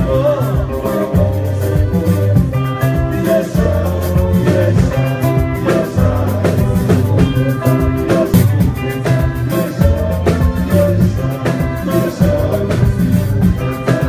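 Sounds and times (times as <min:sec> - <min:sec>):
band playing through speakers: 0:00.0 - 0:14.0
bass line: 0:00.0 - 0:14.0
drums beating: 0:00.0 - 0:14.0
men singing: 0:00.0 - 0:14.0.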